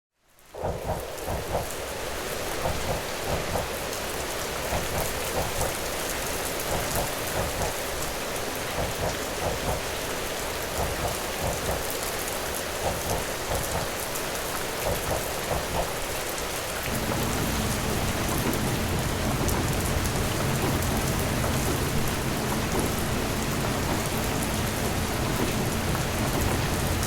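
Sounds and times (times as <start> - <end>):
rain hissing: 0.4 - 27.0
train rumbling in motion: 0.6 - 27.0
wheels clacking over rail joints: 0.6 - 27.0.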